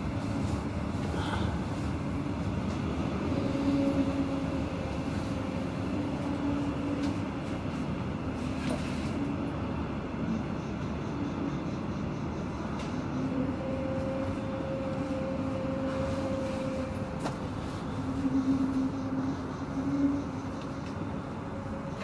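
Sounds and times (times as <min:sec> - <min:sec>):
faint hum: 0:00.0 - 0:22.0
train wheels rumbling: 0:00.0 - 0:22.0.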